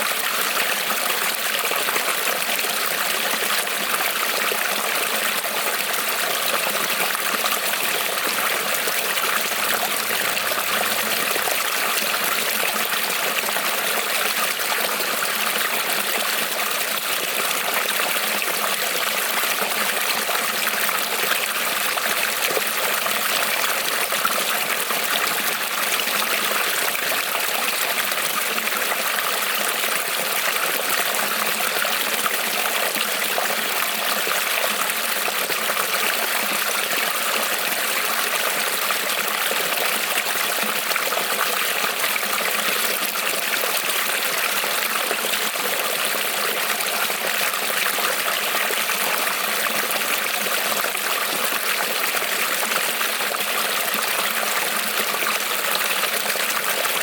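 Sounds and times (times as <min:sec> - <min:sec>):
creek trickling over stones: 0:00.0 - 0:57.0.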